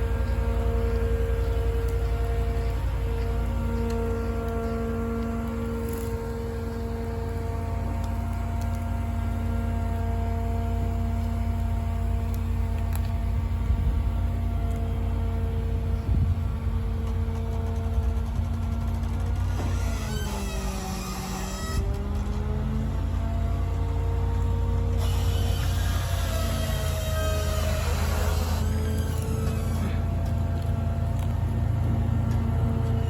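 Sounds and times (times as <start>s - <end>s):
heavy engine running: 0.0s - 33.0s.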